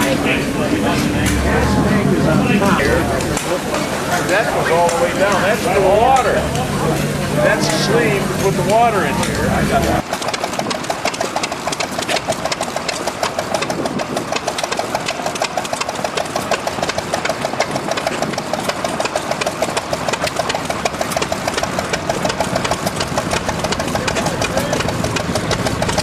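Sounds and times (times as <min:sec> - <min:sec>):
small gas engine clattering: 0:00.0 - 0:26.0.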